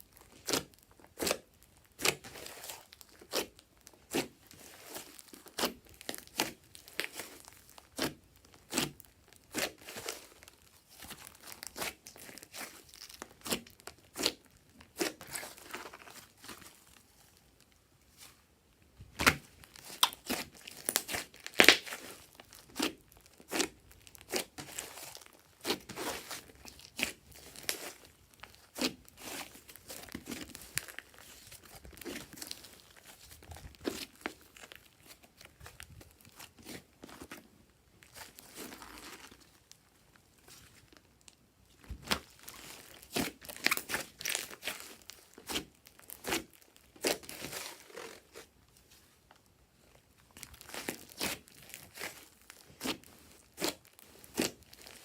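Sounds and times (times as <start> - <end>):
slime squished by hand: 0.2 - 17.0, 19.1 - 37.4, 38.0 - 39.8, 41.8 - 48.6, 50.4 - 55.0.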